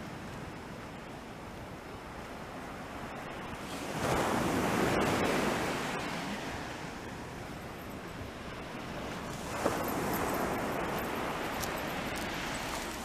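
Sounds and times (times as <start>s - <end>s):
small waves washing on beach: 0.0s - 13.0s.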